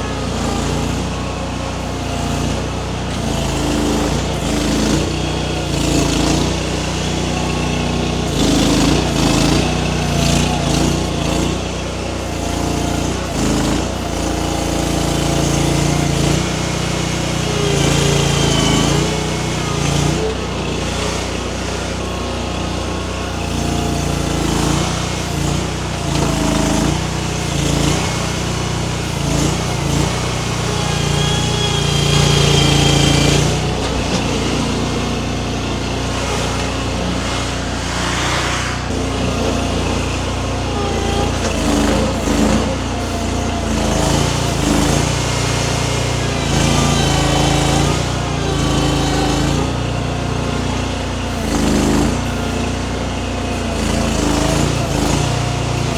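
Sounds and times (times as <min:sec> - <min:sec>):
skid steer engine under load: 0:00.0 - 0:55.9.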